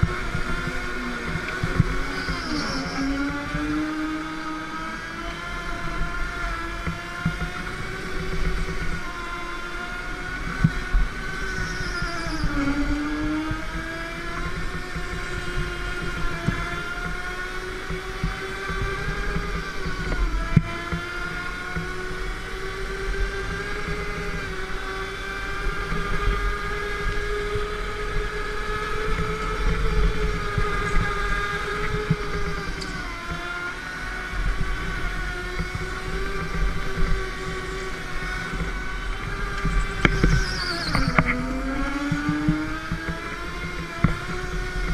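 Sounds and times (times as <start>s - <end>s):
go-kart motor running: 0.0s - 44.9s.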